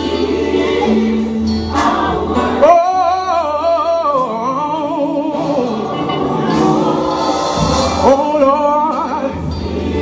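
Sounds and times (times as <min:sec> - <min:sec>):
gospel choir singing: 0:00.0 - 0:10.0
instrumental backing: 0:00.0 - 0:10.0.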